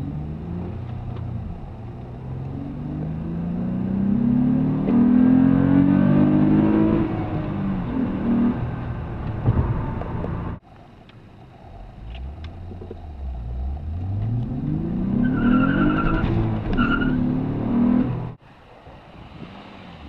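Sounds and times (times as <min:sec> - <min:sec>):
car engine revving: 0:00.0 - 0:10.6, 0:11.5 - 0:18.4.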